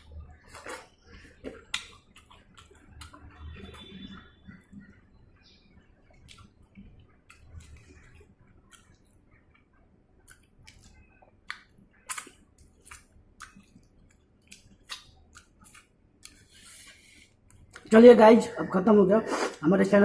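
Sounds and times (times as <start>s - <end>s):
person chewing: 0.0s - 5.0s, 6.0s - 17.9s.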